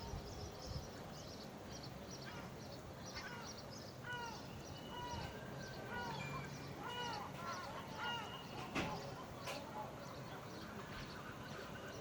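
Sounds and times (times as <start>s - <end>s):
seagulls calling: 2.2s - 12.0s.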